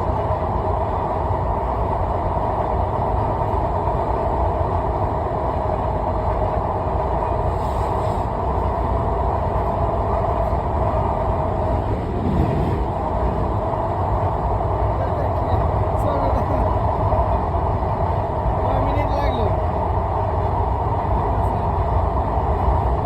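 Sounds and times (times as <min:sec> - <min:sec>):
train rumbling at speed: 0:00.0 - 0:23.0.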